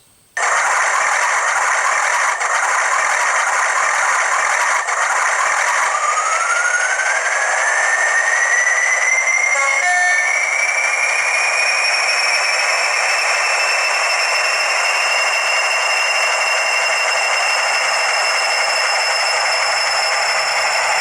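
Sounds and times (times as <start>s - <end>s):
diesel engine sound through small speaker: 0.4s - 21.0s
rising turbo whistle: 0.4s - 21.0s.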